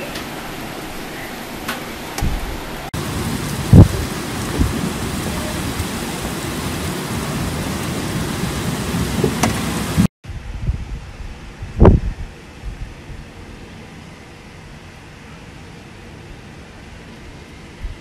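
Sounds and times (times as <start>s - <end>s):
storm rain and wind: 0.0s - 18.0s.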